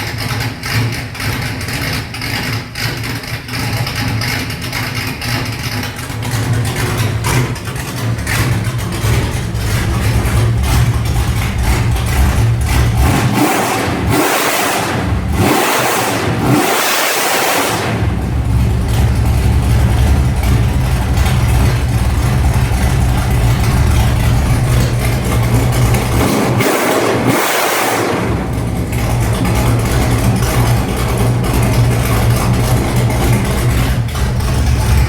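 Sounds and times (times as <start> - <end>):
vee eight engine idling and revving: 0.0 - 35.0.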